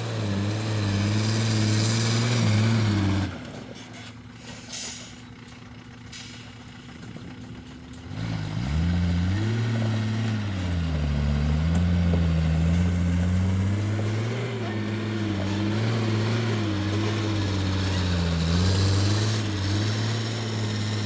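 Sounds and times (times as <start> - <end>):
truck diesel engine running: 0.0 - 21.0
truck engine revving: 0.0 - 21.0.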